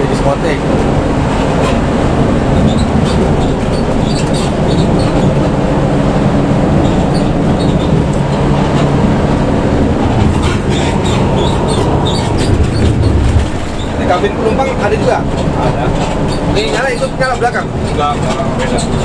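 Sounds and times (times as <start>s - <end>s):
bus engine and road noise: 0.0s - 19.0s
cabin rattles and ticks: 2.5s - 19.0s.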